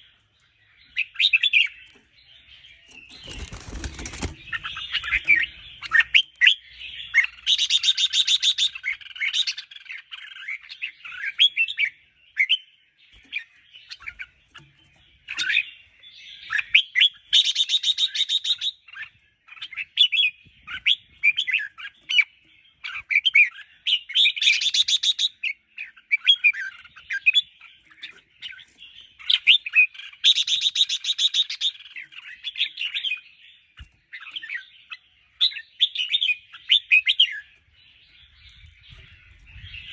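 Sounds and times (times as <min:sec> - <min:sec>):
bulbuls singing whistled phrases: 0:00.0 - 0:39.9.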